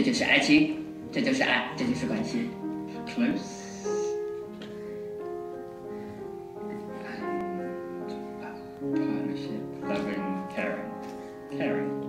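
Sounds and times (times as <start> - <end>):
grand piano playing slow chords: 0.0 - 12.0.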